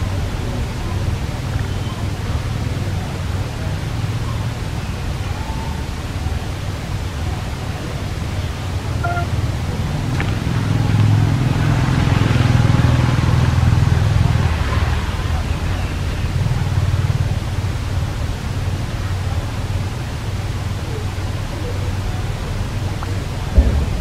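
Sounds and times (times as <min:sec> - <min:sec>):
low engine rumble: 0:00.0 - 0:24.0
steady hiss: 0:00.0 - 0:24.0.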